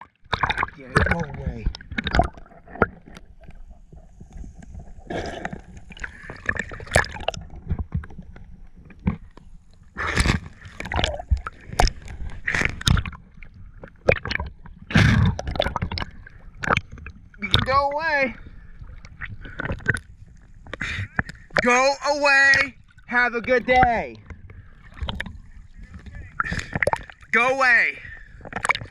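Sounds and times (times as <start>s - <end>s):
water sloshing around a kayak: 0.0s - 28.9s.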